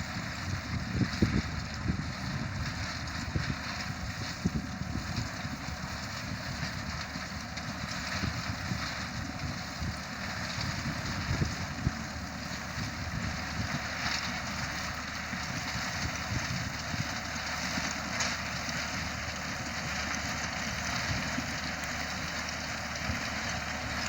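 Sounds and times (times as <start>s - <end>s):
construction machinery running: 0.0s - 24.0s
wind buffeting microphone: 0.0s - 24.0s.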